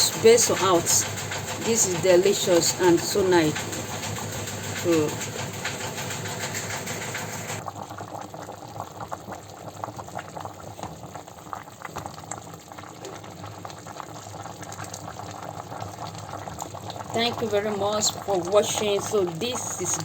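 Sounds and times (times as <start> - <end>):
pot of stew bubbling: 0.0 - 20.0.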